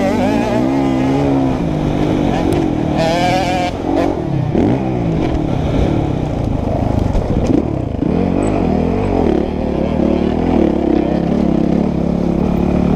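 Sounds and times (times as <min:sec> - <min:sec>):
two-stroke motocross bike revving: 0:00.0 - 0:12.9.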